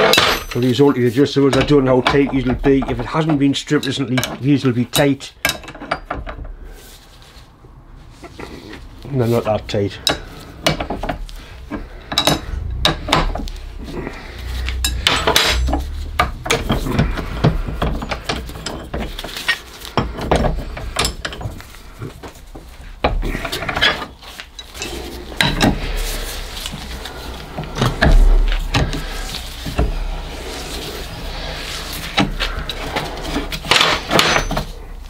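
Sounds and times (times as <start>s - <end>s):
metal clinks taps and scrapes: 0.0s - 7.4s, 9.4s - 13.6s, 14.2s - 35.0s.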